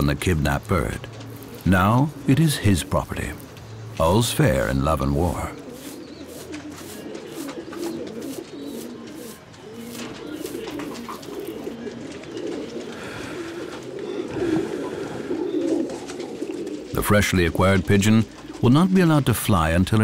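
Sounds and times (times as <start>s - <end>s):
pigeons cooing: 0.0s - 19.3s.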